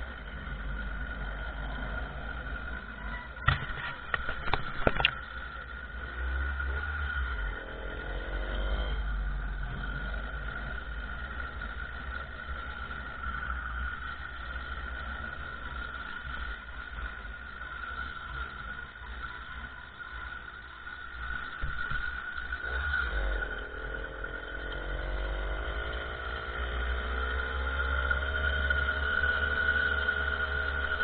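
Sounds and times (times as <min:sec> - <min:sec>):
small motorcycle engine revving: 0:00.0 - 0:31.0.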